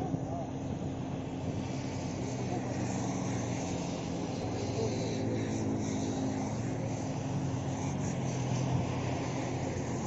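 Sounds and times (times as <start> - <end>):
mini excavator engine running: 0.0 - 10.0.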